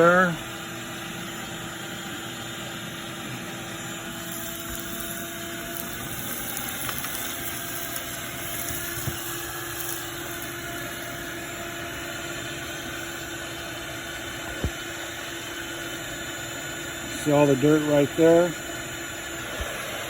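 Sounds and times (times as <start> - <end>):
motor humming: 0.0 - 20.0.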